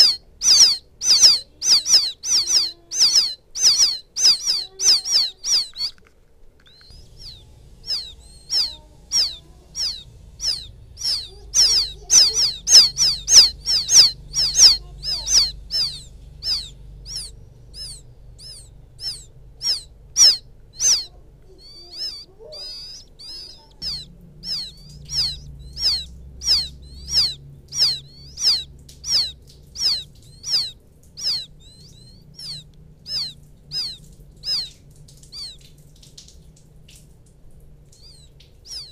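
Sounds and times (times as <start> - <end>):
faint low hum: 0.0 - 38.9
quail chicks peeping: 0.0 - 38.9.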